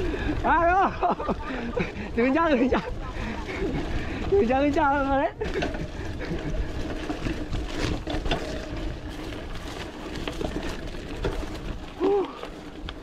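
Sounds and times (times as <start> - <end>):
bike clicking and rattling: 0.0 - 13.0
bike tyres rumbling on dirt: 0.0 - 13.0.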